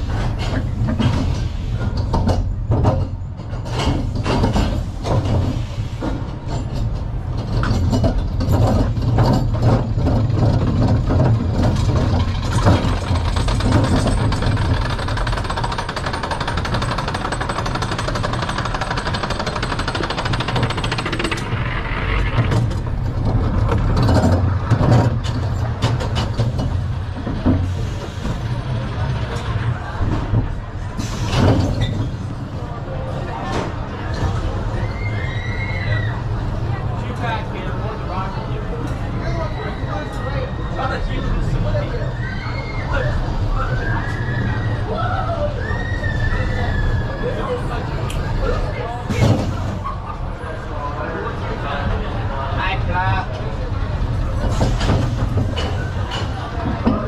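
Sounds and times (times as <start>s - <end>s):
coaster train clattering: 0.0s - 57.0s
roller coaster train rumbling: 0.0s - 57.0s.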